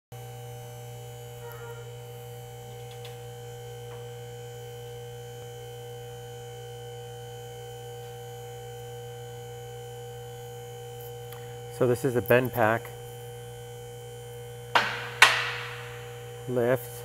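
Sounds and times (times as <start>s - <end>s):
hydraulic motor hum: 0.3s - 6.3s, 6.9s - 17.0s.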